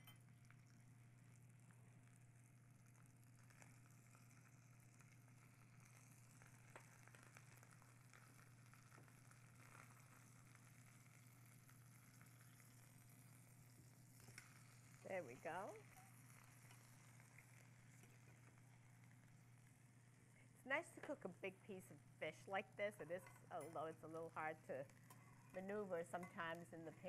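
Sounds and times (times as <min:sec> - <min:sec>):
fish sizzling in a pan: 0:00.0 - 0:21.1, 0:21.8 - 0:27.0.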